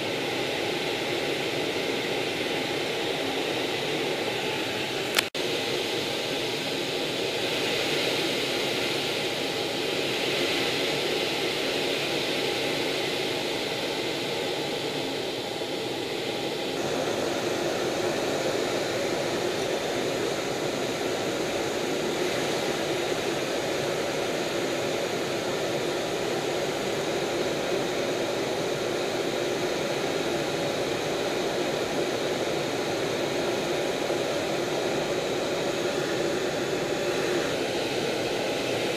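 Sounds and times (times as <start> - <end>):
jet engine noise in cockpit: 0.0 - 38.9.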